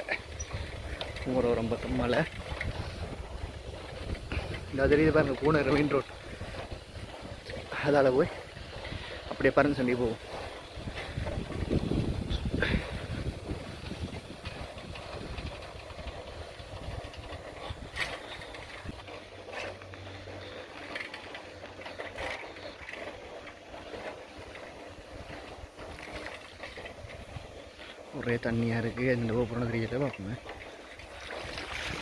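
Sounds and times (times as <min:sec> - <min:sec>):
bicycle rolling on dirt road: 0:00.0 - 0:32.0.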